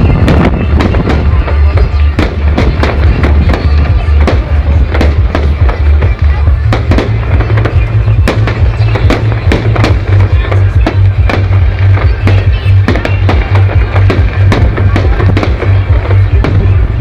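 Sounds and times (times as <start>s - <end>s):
loud bass-heavy music: 0.0s - 17.0s.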